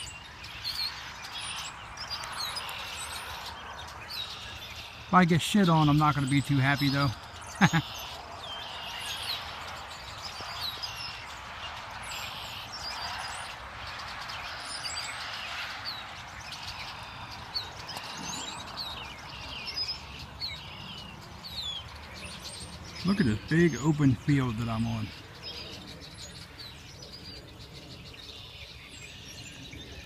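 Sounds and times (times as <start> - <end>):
flock of birds chirping: 0.0 - 30.0.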